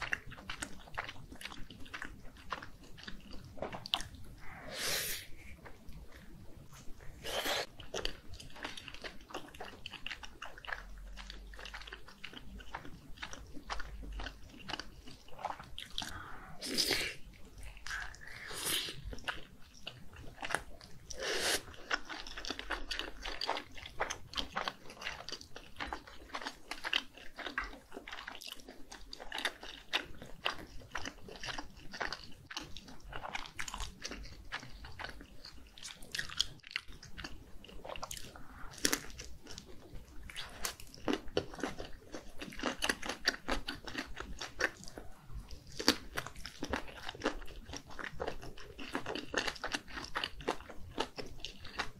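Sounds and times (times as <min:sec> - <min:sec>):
chewing mouth sounds: 0:05.4 - 0:51.9.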